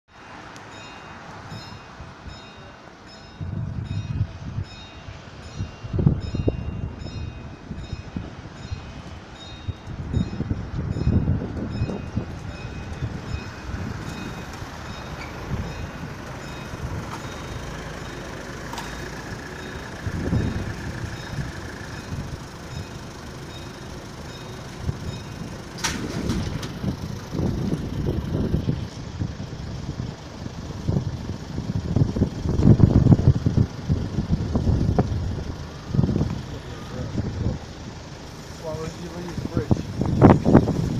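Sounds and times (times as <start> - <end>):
wind rumbling on microphone: 3.4 - 18.0, 19.2 - 23.1, 24.6 - 37.8, 38.7 - 40.9.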